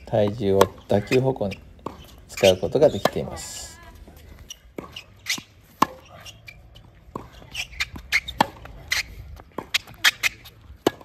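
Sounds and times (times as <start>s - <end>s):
racket striking tennis ball: 0.0s - 3.5s, 4.8s - 11.0s
shoes squeaking on court: 0.0s - 11.0s.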